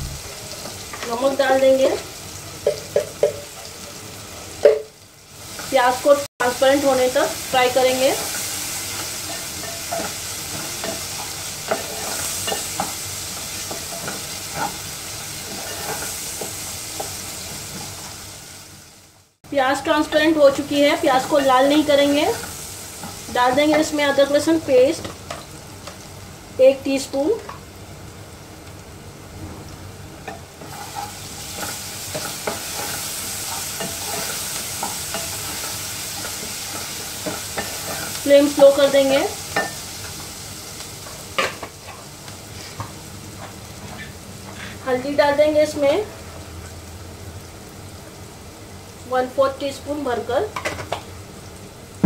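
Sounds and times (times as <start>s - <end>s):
onions sizzling in hot oil: 0.0s - 52.0s.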